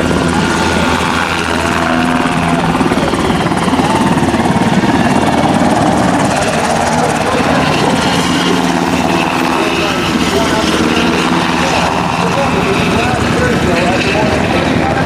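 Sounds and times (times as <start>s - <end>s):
helicopter rotor beating overhead: 0.0s - 15.0s.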